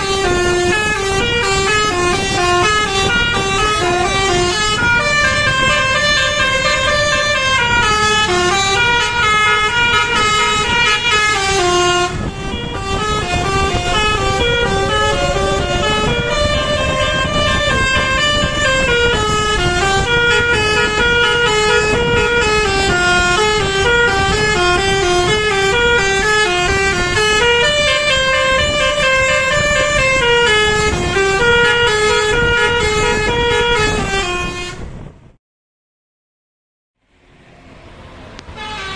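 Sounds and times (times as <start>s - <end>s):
musical bus horn melody: 0.0s - 35.2s, 38.4s - 38.9s
bus rumble: 0.0s - 35.4s, 37.0s - 38.9s.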